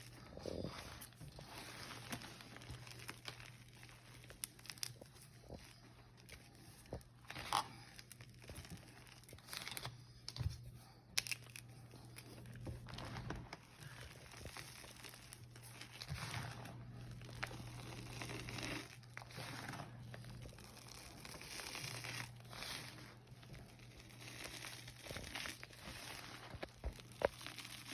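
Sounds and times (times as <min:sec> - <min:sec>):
chalk crunching and crumbling: 0:00.0 - 0:27.9.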